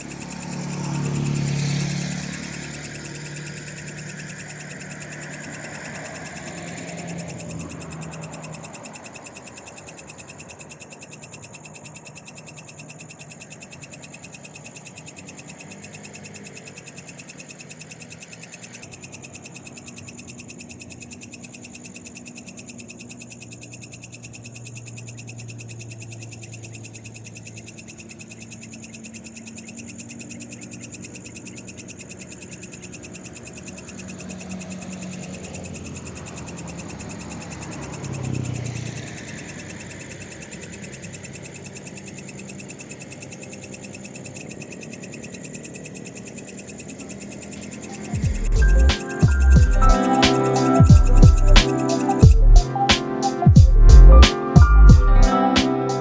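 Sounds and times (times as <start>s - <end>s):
frogs calling: 0.0s - 56.0s
insects ringing: 0.0s - 56.0s.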